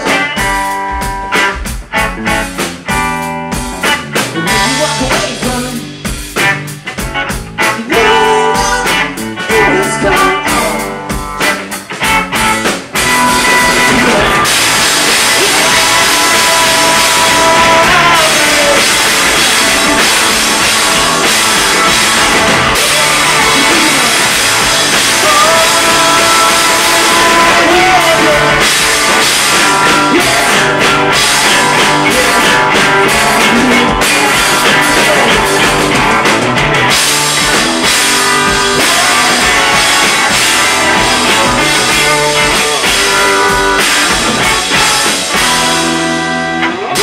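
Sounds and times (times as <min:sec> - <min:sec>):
drum kit: 0:00.0 - 0:47.0
electric guitars: 0:00.0 - 0:47.0.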